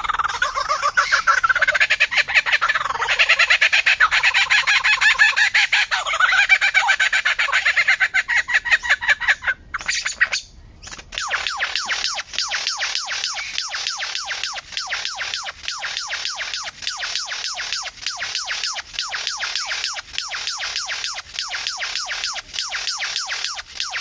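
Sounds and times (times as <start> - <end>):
bird calling harsh notes: 0.0 - 24.0.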